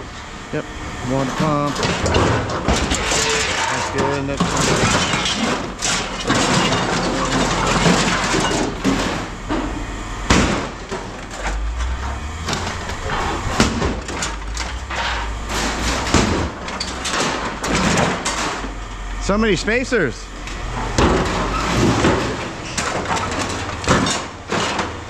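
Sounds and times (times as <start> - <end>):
low steady rumble: 0.0 - 24.8
scrap metal clanking: 1.1 - 19.0, 20.4 - 25.0.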